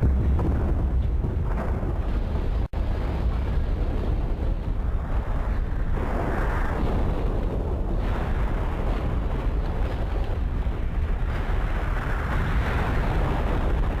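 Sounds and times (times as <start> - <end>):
deep rumbling explosion: 0.0 - 14.0.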